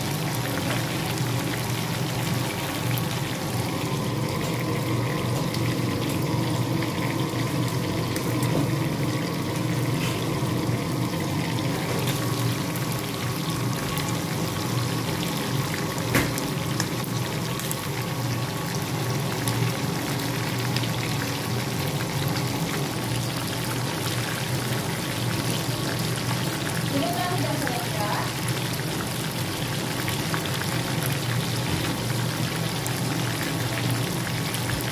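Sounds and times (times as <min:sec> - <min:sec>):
chicken deep-frying in oil: 0:00.0 - 0:34.9.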